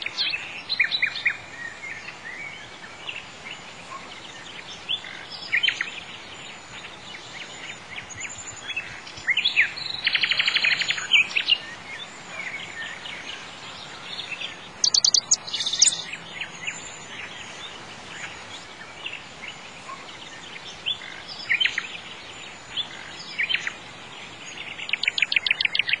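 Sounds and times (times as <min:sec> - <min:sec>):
faint steady hiss: 0:00.0 - 0:26.0
songbirds chirping and singing: 0:00.0 - 0:26.0.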